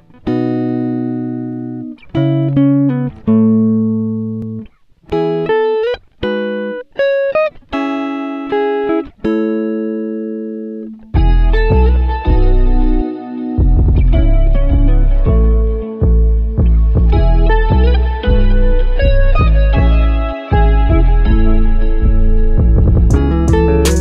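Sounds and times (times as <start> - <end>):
guitar playing slow chords: 0.0 - 24.0.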